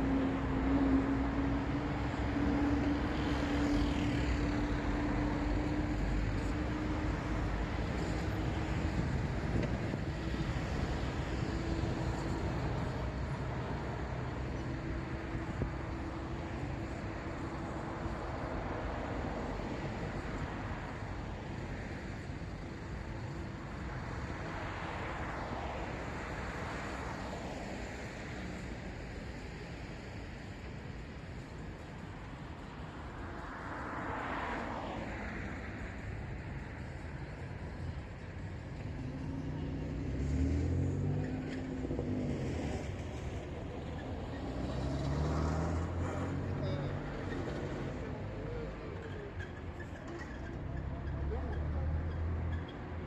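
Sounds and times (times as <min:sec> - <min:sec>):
traffic rumble: 0:00.0 - 0:53.0
vehicles passing: 0:00.0 - 0:53.0.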